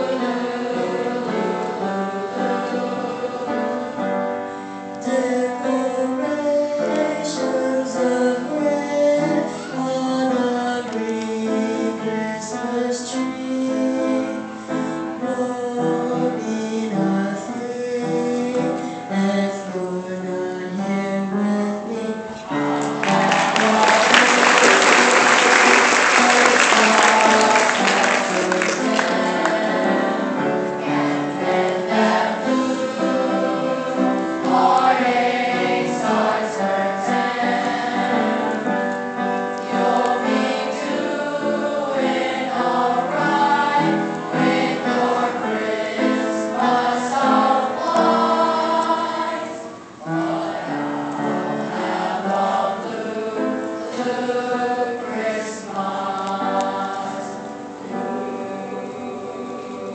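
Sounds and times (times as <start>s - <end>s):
choir singing in harmony: 0.0s - 59.9s.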